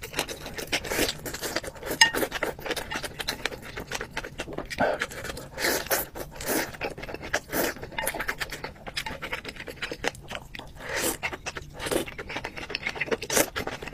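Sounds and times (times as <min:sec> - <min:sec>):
wet chewing clicks: 0:00.0 - 0:13.9.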